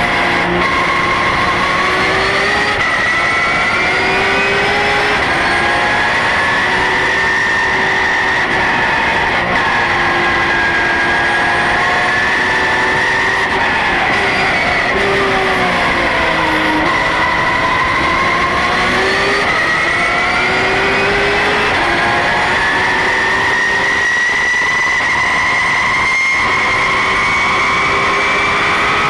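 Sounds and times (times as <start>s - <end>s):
race car engine revving: 0.0s - 29.0s
road and wind noise: 0.0s - 29.0s.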